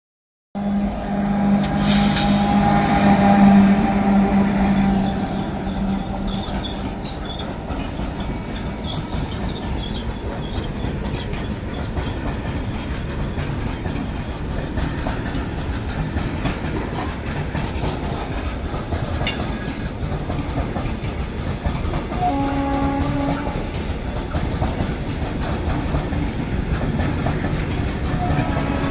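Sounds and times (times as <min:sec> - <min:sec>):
train passing rumble: 0:00.6 - 0:28.9
wheels clattering over rail joints: 0:04.2 - 0:28.9.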